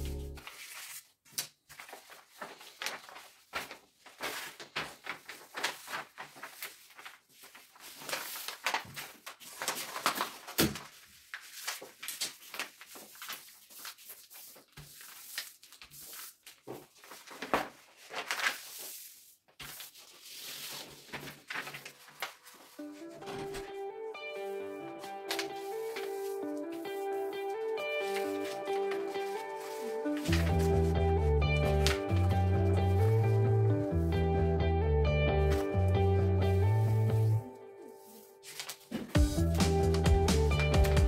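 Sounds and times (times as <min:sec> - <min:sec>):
paper rustling and creasing: 0:00.1 - 0:34.1, 0:35.4 - 0:41.0.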